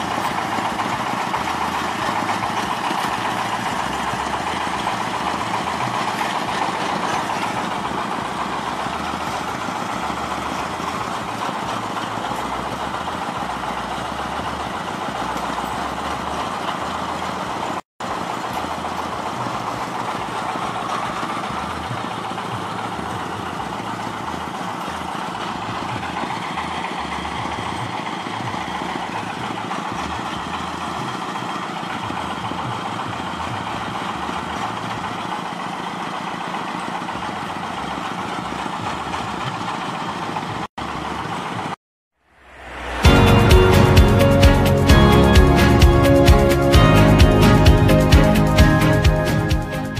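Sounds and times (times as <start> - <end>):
belt conveyor machinery running: 0.0 - 41.8, 42.6 - 49.9.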